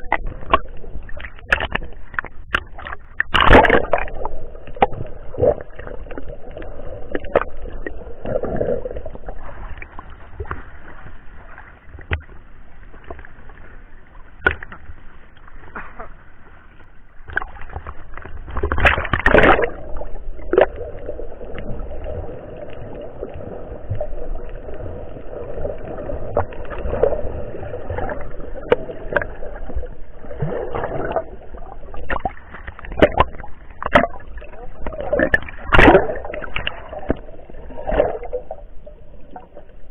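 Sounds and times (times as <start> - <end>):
muffled underwater sloshing: 0.0 - 39.9
water splashing: 0.0 - 39.9.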